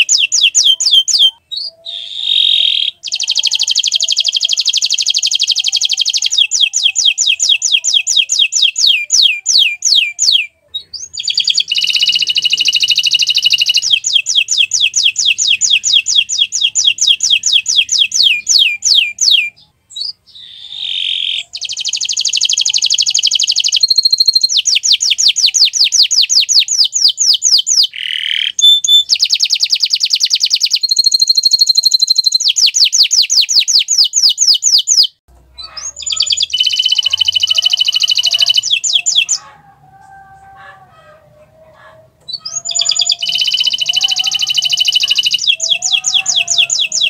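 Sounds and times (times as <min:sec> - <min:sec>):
canary singing trills: 0:00.0 - 0:47.0.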